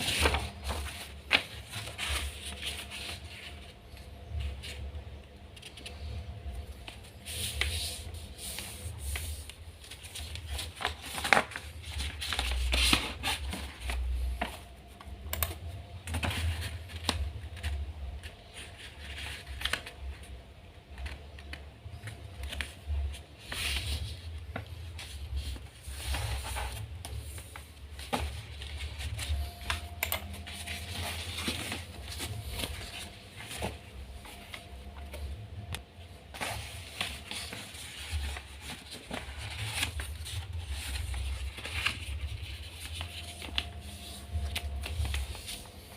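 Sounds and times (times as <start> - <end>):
paper being folded: 0.0 - 20.3, 20.9 - 45.9.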